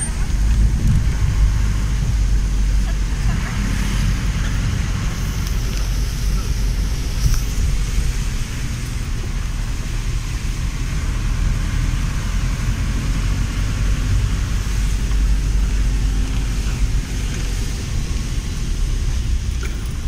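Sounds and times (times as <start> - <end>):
low rumble of engine and tyres: 0.0 - 20.0.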